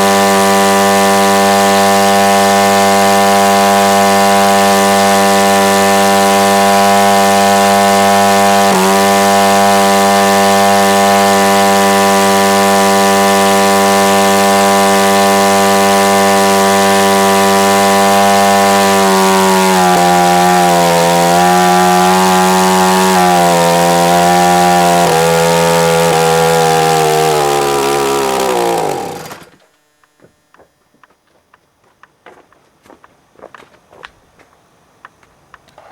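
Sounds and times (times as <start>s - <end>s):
two-stroke engine spinning propeller: 0.0s - 29.6s.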